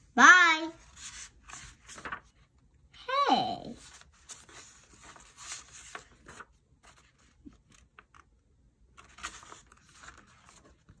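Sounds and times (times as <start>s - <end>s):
book pages turning: 0.8s - 2.6s, 3.8s - 11.0s.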